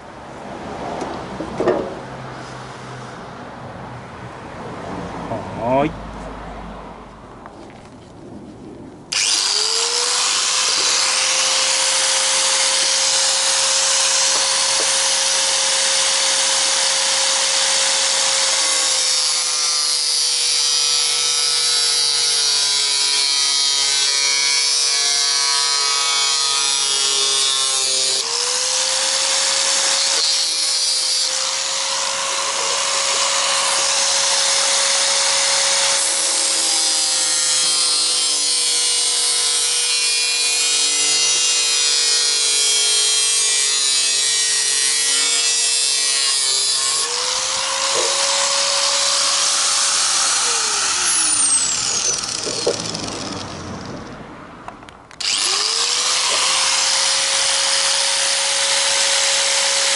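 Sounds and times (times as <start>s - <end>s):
disc grinder cutting metal: 9.1s - 54.0s, 55.2s - 59.9s.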